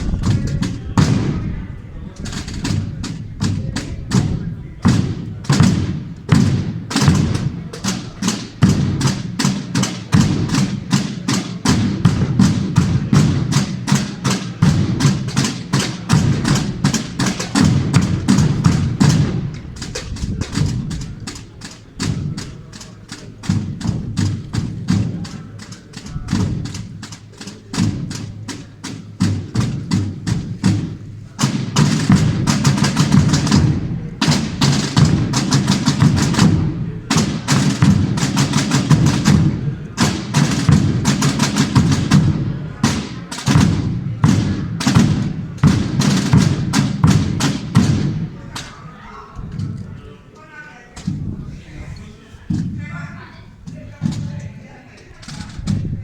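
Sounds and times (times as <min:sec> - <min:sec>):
bass drum beats: 0:00.0 - 0:48.6
snare drums playing fast strokes: 0:00.0 - 0:49.8, 0:53.7 - 0:56.0.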